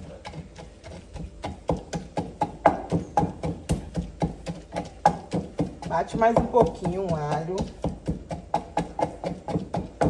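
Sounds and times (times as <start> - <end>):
wooden pestle pounding in mortar: 0.0 - 10.0.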